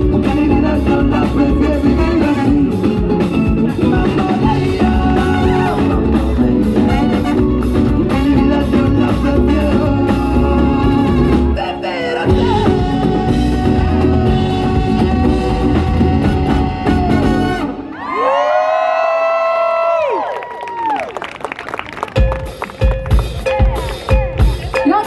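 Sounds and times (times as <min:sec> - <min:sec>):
latin pop band playing: 0:00.0 - 0:20.0, 0:21.8 - 0:25.0.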